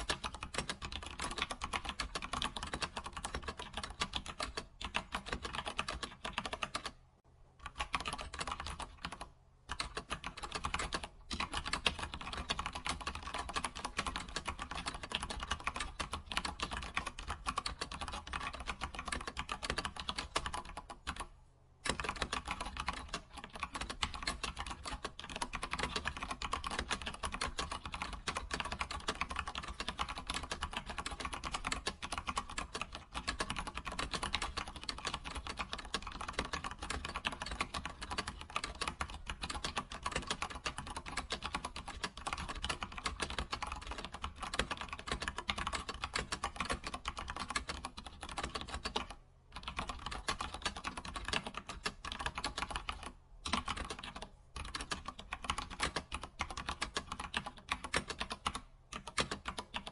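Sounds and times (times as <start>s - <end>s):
keyboard typing clicks: 0.0s - 7.0s, 7.6s - 59.9s.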